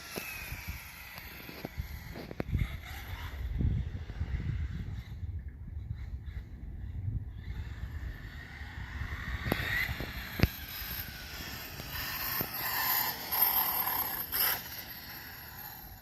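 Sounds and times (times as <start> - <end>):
toy truck motor whining: 0.0 - 5.2, 6.2 - 16.0.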